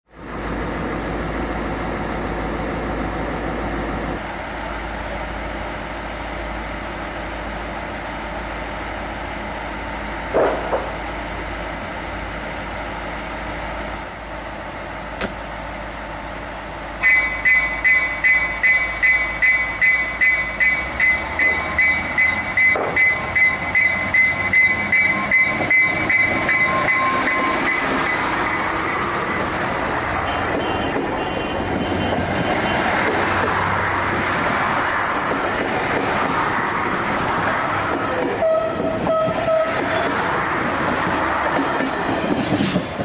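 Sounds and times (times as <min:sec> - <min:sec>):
train passing at speed: 0:00.1 - 0:43.0.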